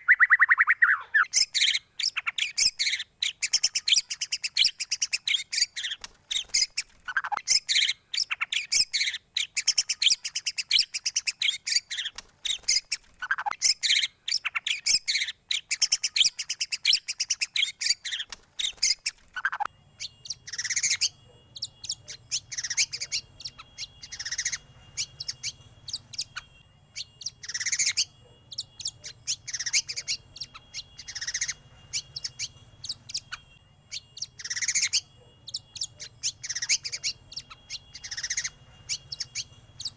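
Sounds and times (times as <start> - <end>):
songbird chirping and whistling: 0.0 - 39.9
sweeping bird calls: 0.0 - 39.9.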